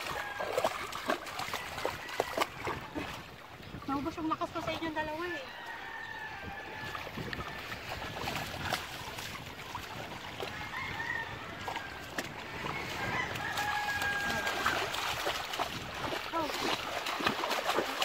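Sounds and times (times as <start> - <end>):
dogs splashing through water: 0.0 - 18.0.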